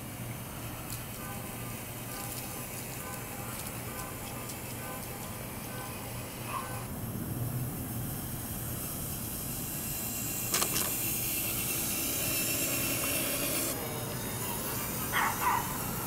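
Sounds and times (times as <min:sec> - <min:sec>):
toy car driving through grass: 0:00.6 - 0:06.9, 0:08.1 - 0:16.0.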